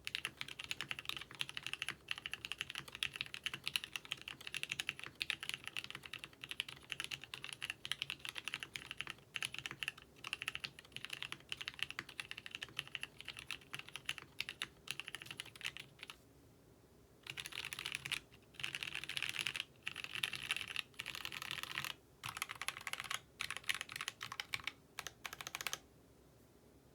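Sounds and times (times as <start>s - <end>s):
fast typing on mechanical keyboard: 0.0s - 16.2s, 17.2s - 25.8s.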